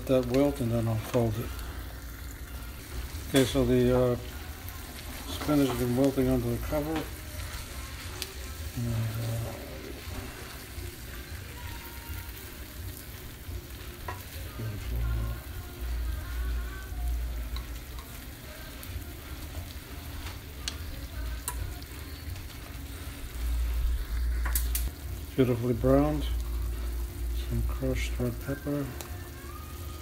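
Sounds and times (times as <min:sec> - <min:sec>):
omelet sizzling in a skillet: 0:00.0 - 0:30.0.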